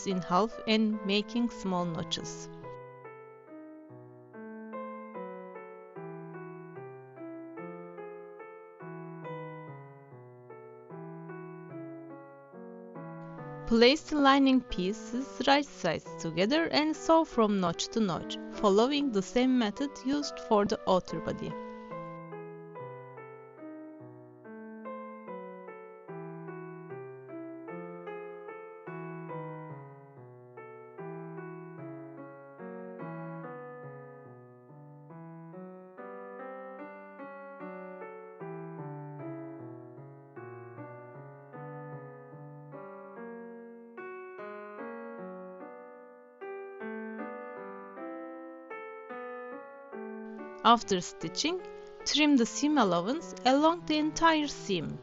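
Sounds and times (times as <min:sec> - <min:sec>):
electric piano playing: 0:00.0 - 0:55.0.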